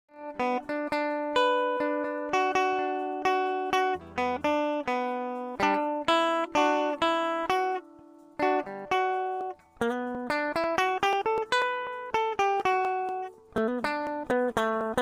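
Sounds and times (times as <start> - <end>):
plucked guitar music: 0.1 - 15.0.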